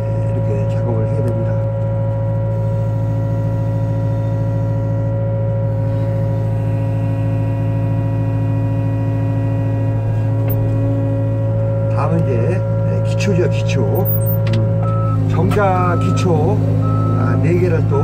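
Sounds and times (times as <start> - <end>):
diesel engine running: 0.0 - 18.0
hydraulic whine: 0.0 - 18.0.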